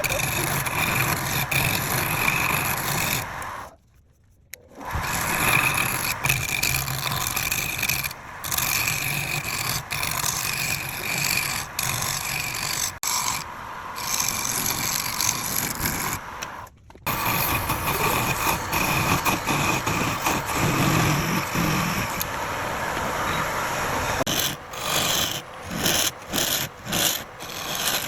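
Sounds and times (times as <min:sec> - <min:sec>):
wood lathe cutting wood: 0:00.0 - 0:03.7, 0:04.8 - 0:28.0.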